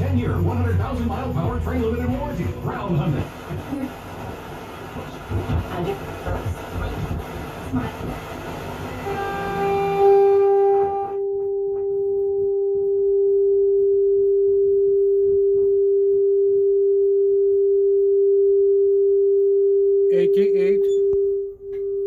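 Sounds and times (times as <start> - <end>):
steady pure tone: 0.0 - 22.0.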